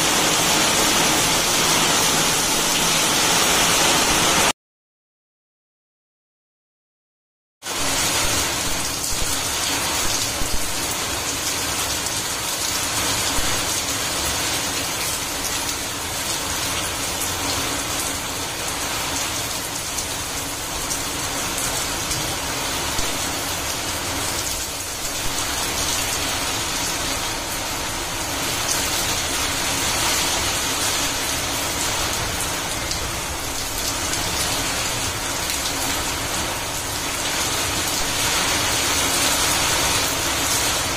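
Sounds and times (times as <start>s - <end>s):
heavy rain on concrete: 0.0s - 4.6s, 7.6s - 40.9s.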